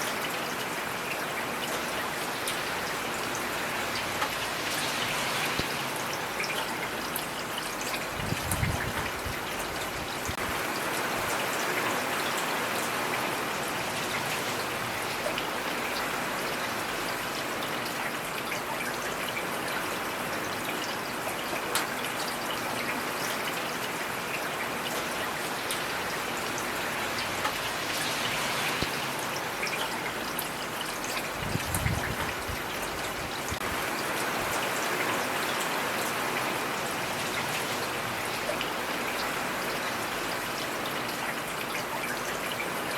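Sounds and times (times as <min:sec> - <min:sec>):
heavy rain pattering: 0:00.0 - 0:42.9
running stream: 0:00.0 - 0:42.9.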